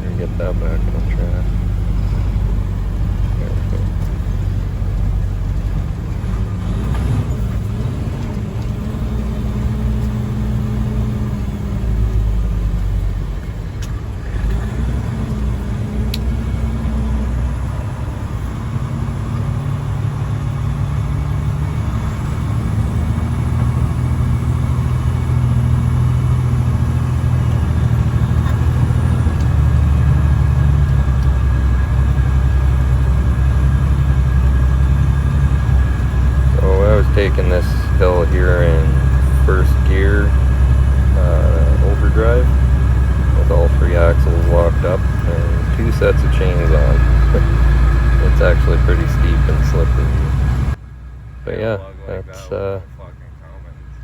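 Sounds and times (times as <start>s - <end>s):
truck diesel engine pulling hard: 0.0s - 54.0s.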